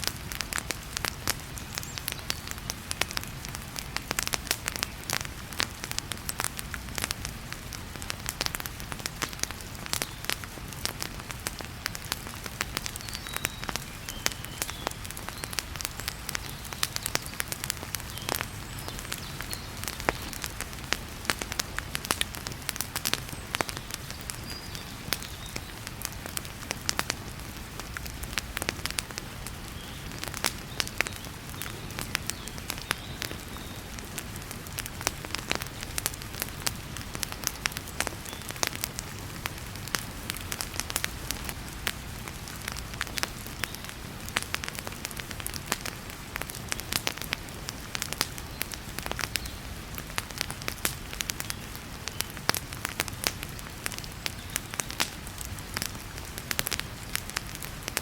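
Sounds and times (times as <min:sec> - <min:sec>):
heavy rain hiss: 0:00.0 - 0:58.0
wood fire crackling and popping: 0:00.0 - 0:58.0.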